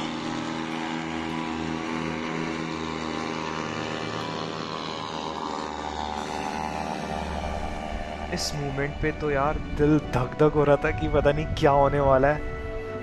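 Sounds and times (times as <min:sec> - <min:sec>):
paramotor engine drone: 0:00.0 - 0:13.0.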